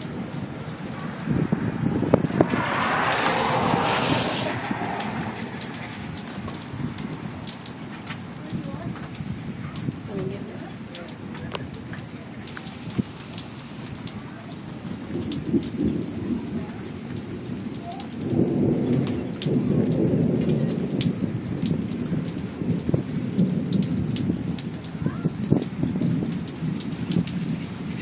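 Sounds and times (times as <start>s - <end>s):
rain drops pattering: 0.0s - 28.0s
thunder rumbling: 0.0s - 28.0s.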